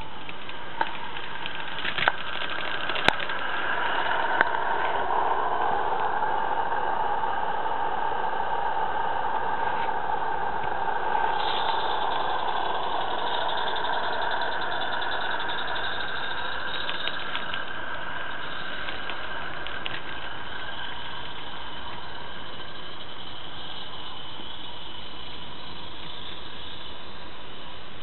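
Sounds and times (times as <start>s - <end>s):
steam locomotive hiss and exhaust beat: 0.0s - 28.0s.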